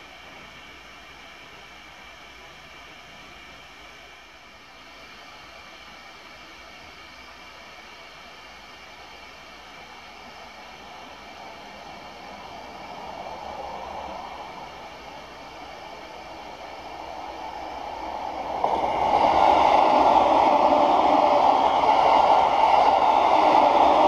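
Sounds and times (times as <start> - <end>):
electric train passing: 4.5 - 24.0.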